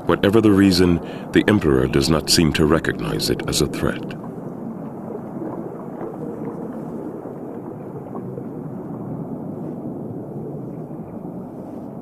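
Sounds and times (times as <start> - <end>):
underwater rushing: 0.0 - 12.0.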